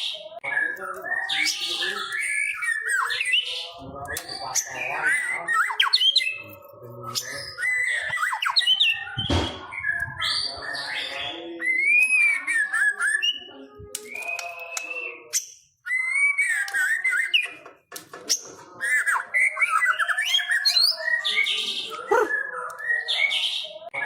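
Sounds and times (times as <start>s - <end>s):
songbird singing whistles: 0.0s - 17.6s, 18.3s - 24.0s.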